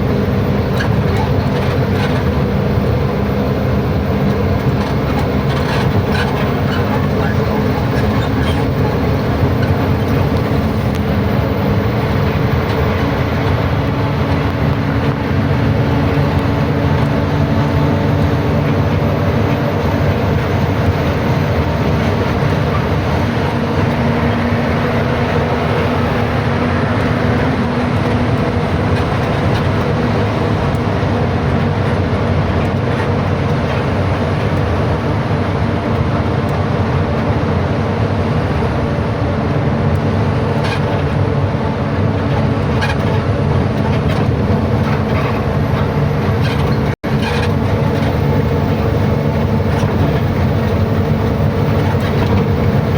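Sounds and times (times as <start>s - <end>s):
road rumble: 0.0s - 52.9s
truck engine drone: 0.0s - 52.9s.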